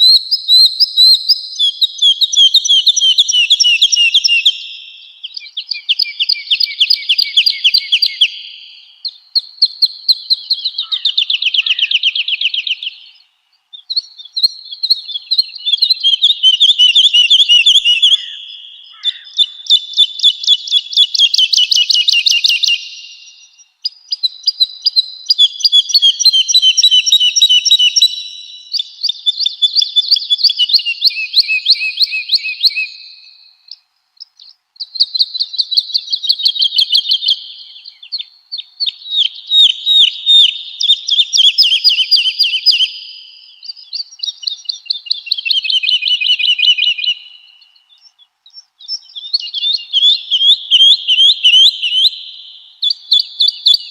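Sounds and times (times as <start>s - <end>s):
bird singing trilled phrases: 0.0s - 53.9s.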